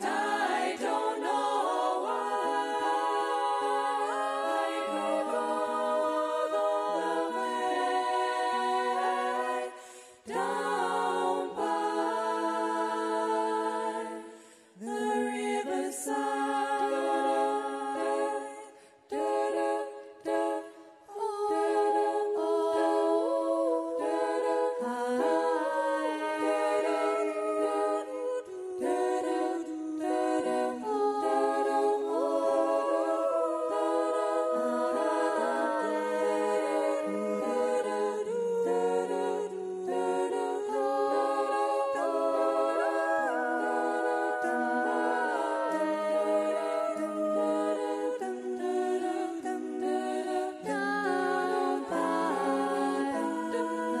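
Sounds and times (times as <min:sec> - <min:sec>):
women singing a cappella harmony: 0:00.0 - 0:54.0.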